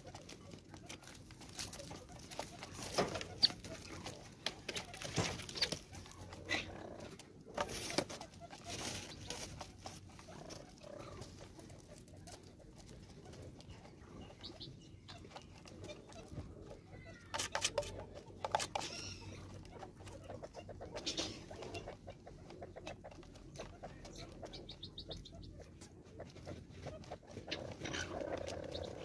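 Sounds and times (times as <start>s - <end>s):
birds pecking plastic feeder: 0.0s - 29.0s.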